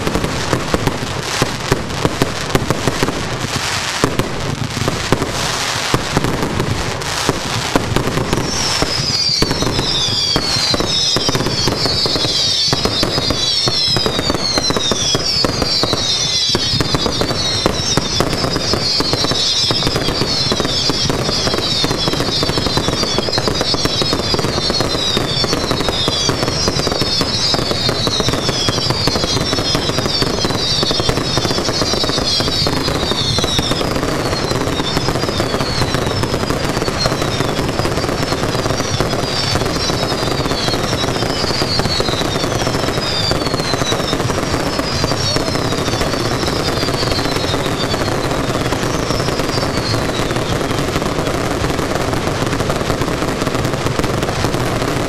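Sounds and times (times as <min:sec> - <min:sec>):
falling firework whistles: 0:00.0 - 0:55.0
fireworks bangs and crackling: 0:00.0 - 0:55.0.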